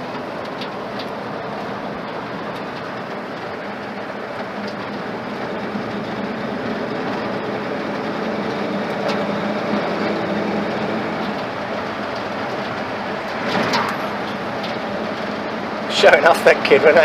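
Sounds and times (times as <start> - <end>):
road and rattle noise: 0.0 - 17.0
truck engine drone: 0.0 - 17.0.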